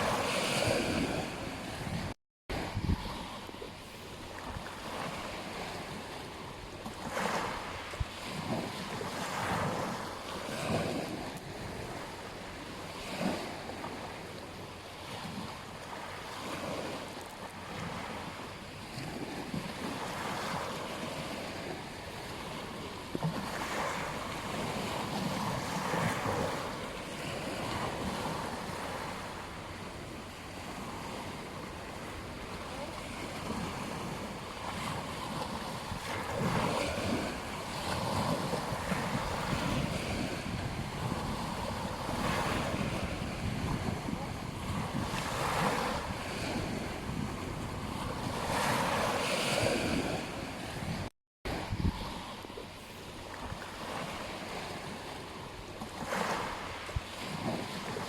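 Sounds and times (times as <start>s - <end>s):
waves breaking on beach: 0.0s - 58.0s
wind on microphone: 0.0s - 58.0s.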